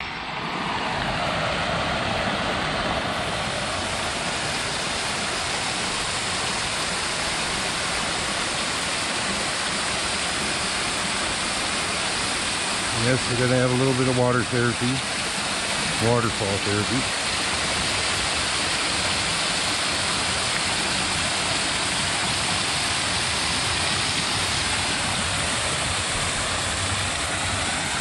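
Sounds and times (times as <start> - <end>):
fountain water rushing splash: 0.0 - 28.0.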